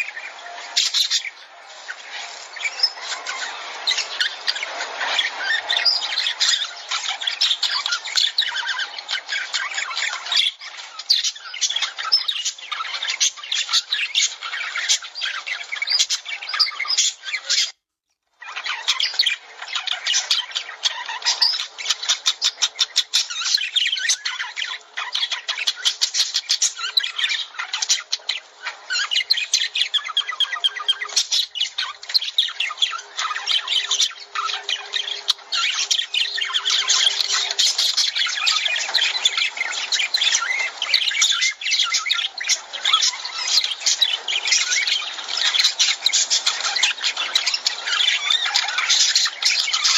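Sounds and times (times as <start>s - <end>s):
birds chattering: 0.0s - 17.8s, 18.4s - 49.9s.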